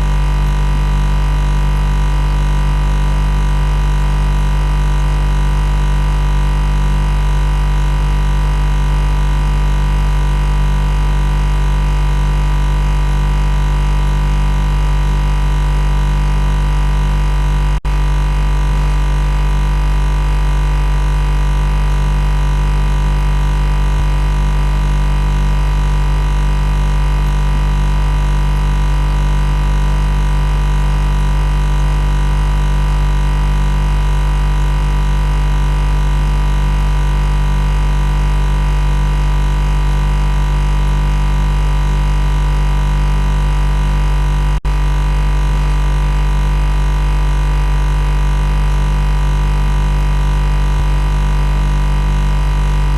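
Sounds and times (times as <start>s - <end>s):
machine buzz drone: 0.0s - 52.9s.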